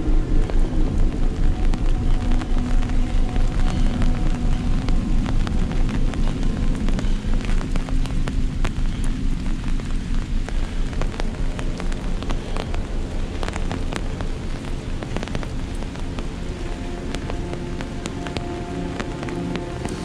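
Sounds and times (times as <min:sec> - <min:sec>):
heavy rain: 0:00.0 - 0:20.0
low pulsing rumble: 0:00.0 - 0:20.0
raindrops ticking: 0:00.0 - 0:20.0.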